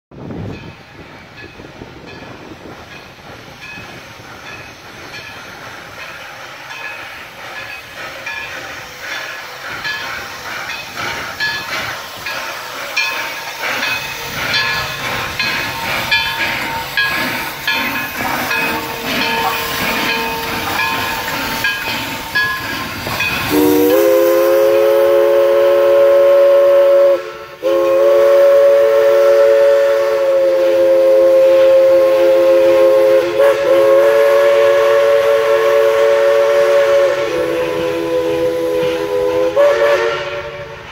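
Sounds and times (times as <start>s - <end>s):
steam locomotive clanking and squealing: 0.2s - 40.9s
chime steam whistle: 3.7s - 40.9s.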